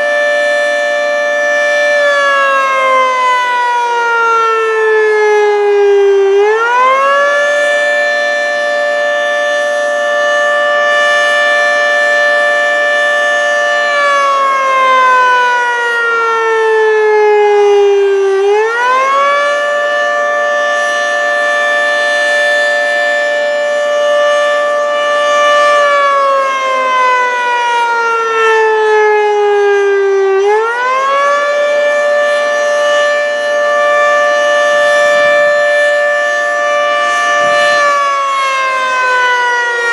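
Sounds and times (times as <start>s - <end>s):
outdoor warning siren wailing: 0.0s - 39.9s.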